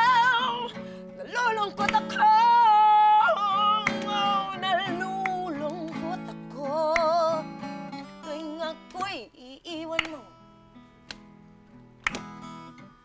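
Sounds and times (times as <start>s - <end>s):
woman singing blues with vibrato: 0.0s - 10.4s
acoustic guitar: 0.0s - 13.0s.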